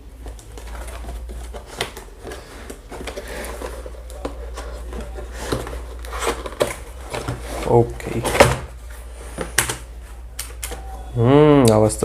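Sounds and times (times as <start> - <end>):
cardboard box rustling: 0.0 - 10.0.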